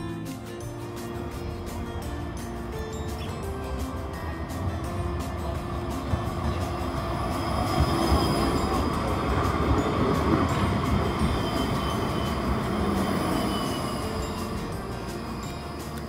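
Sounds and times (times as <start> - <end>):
tram wheels rumbling on rails: 0.6 - 16.0.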